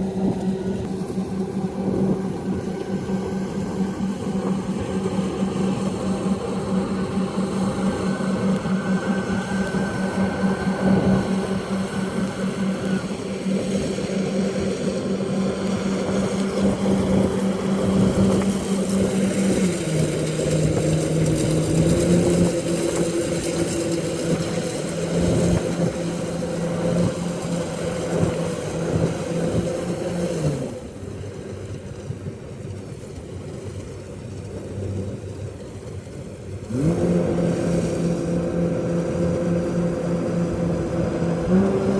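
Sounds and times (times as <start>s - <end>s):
combine harvester engine running: 0.0s - 41.9s.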